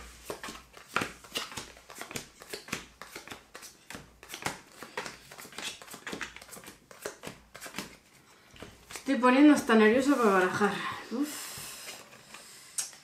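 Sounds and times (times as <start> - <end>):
playing cards shuffled and dealt: 0.0 - 10.5.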